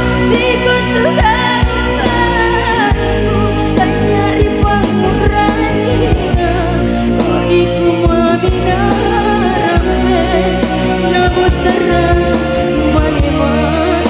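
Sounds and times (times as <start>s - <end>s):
live band playing: 0.0s - 14.0s
woman singing into a microphone: 0.0s - 14.0s.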